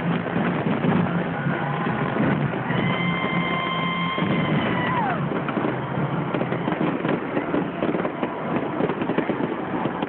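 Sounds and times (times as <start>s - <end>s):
crowd noise: 0.0s - 10.0s
fireworks crackling and popping: 0.0s - 10.0s.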